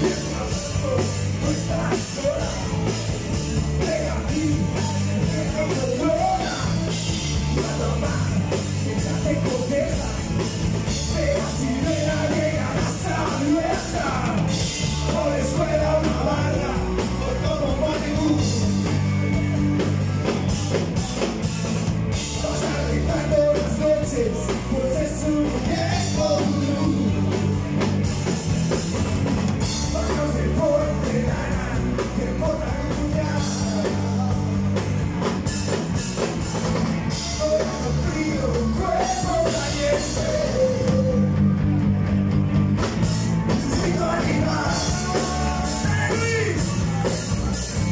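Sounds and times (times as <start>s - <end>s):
man singing lead vocal: 0.0s - 21.4s, 22.1s - 27.5s, 29.6s - 34.9s, 37.1s - 41.4s, 43.5s - 47.9s
drum kit: 0.0s - 47.9s
electric bass: 0.0s - 47.9s
electric guitar: 0.0s - 47.9s.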